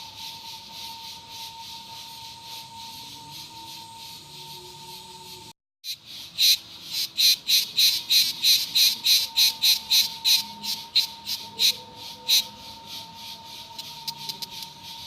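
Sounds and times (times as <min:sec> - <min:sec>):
cicada buzzing pulses: 0:00.0 - 0:15.0
faint steady whine: 0:00.0 - 0:15.0.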